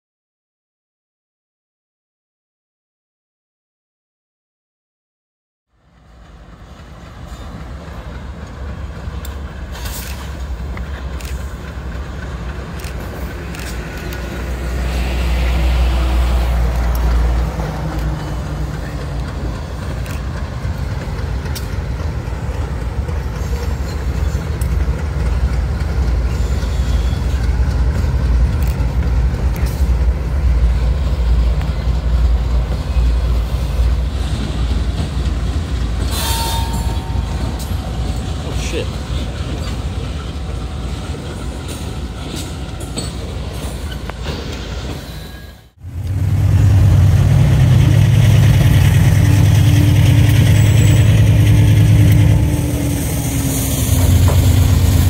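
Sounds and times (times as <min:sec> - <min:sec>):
diesel locomotive engines rumbling: 0:05.7 - 0:55.0.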